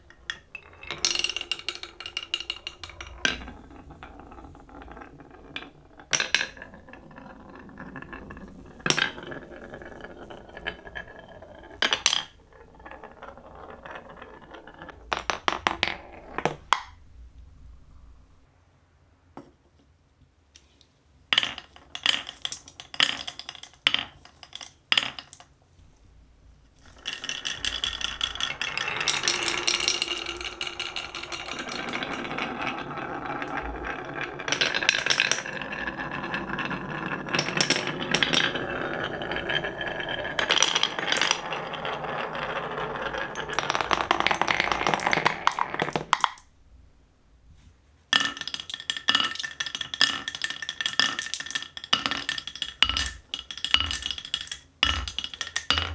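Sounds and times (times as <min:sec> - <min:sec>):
marbles clicking on wood: 0:00.0 - 0:17.0, 0:21.4 - 0:25.5, 0:26.8 - 0:46.5, 0:48.1 - 0:55.9
marbles rolling down wooden track: 0:00.0 - 0:17.0, 0:21.4 - 0:25.5, 0:26.8 - 0:46.6, 0:48.1 - 0:55.9.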